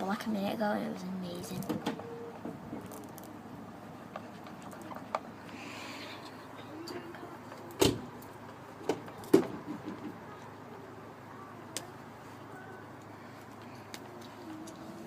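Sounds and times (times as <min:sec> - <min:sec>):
low steady background hum: 0:00.0 - 0:15.0.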